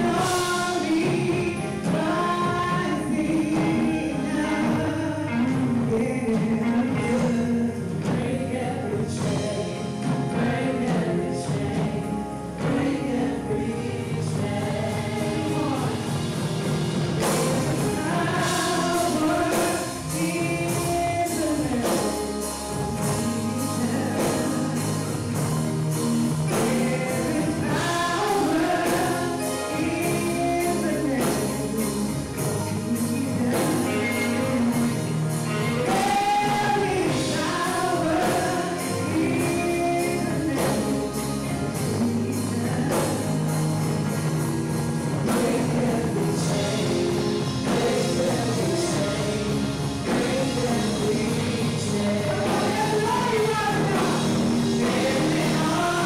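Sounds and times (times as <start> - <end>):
gospel band playing: 0.0 - 56.0
woman singing: 0.0 - 56.0.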